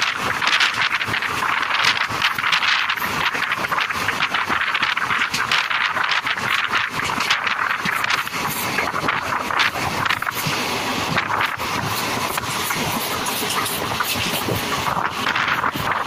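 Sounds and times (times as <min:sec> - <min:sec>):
train wheels on rail: 0:00.0 - 0:16.0
wind buffeting microphone: 0:00.0 - 0:16.0.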